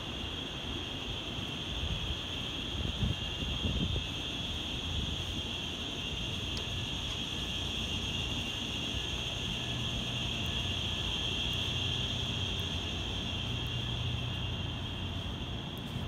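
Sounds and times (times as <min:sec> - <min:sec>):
high-pitched hiss: 0:00.0 - 0:16.0
distant traffic rumble: 0:01.2 - 0:16.0.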